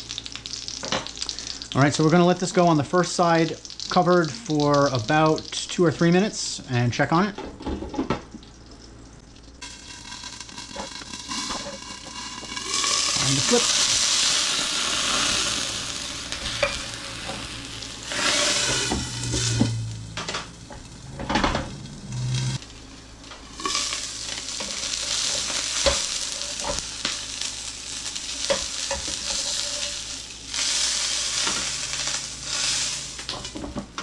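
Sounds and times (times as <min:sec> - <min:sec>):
chicken sizzling in a pan: 0:00.0 - 0:07.3, 0:08.4 - 0:34.0.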